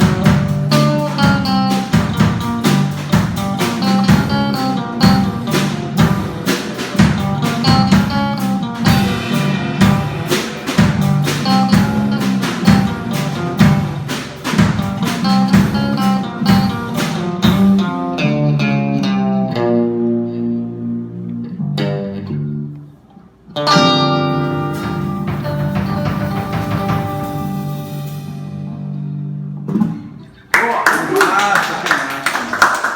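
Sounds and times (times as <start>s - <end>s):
guitar music: 0.0s - 30.3s.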